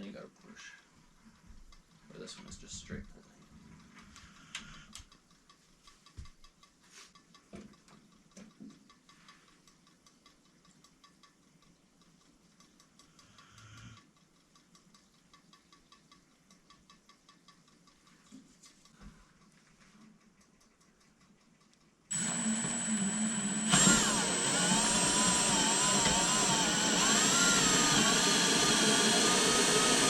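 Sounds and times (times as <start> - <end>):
faint even ticking: 0.0 - 29.9.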